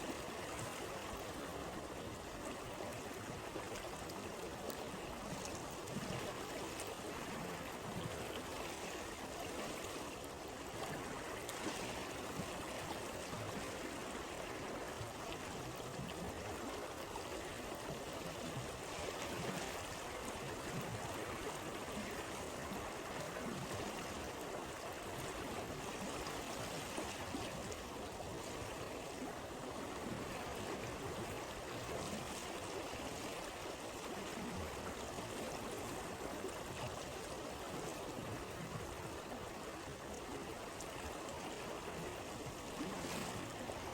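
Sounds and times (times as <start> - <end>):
stream babbling: 0.0 - 43.9.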